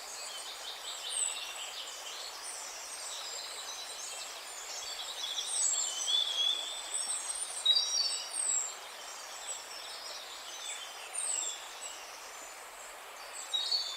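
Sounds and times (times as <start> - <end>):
steady background hiss: 0.0 - 13.9.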